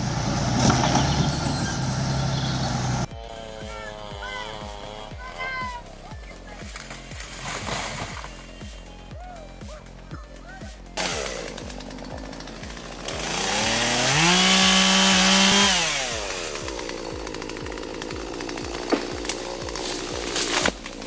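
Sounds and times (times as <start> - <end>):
chainsaw revving: 0.0 - 9.2, 10.8 - 21.0
music with a steady beat: 3.0 - 21.0.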